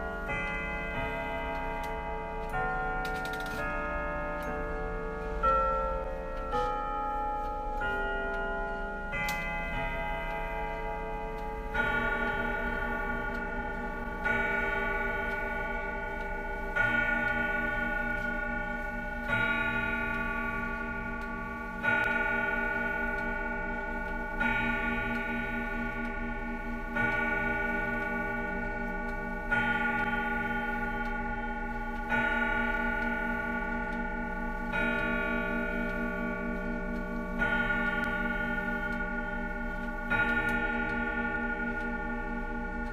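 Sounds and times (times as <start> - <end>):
clock chime melody: 0.0 - 42.9
clock ticking: 0.0 - 42.9
deep ringing clock strikes: 0.0 - 42.9.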